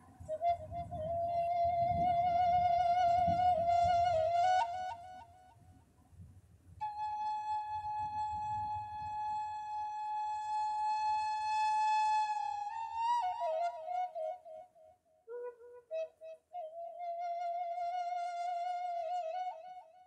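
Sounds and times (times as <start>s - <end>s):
slow solo flute melody: 0.0s - 5.8s, 6.8s - 20.0s.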